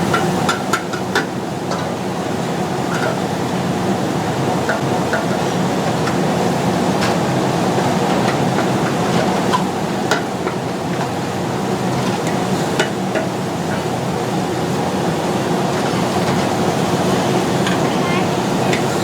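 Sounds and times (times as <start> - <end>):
food stall rumbling noise: 0.0 - 19.0.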